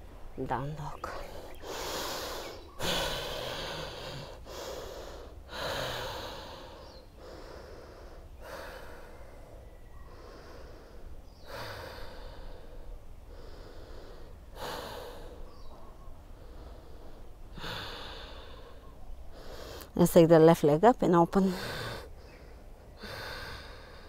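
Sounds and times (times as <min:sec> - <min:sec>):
person breathing deeply: 0:01.2 - 0:19.9, 0:21.5 - 0:24.0.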